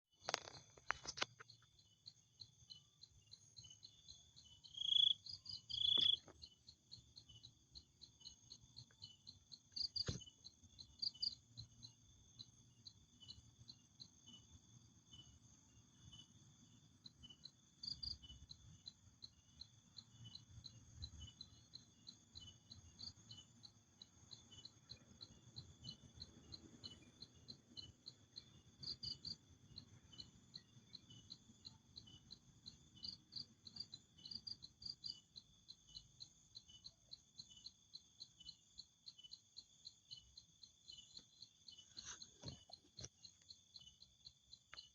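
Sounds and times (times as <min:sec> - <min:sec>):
crickets chirping: 0:00.2 - 0:44.9.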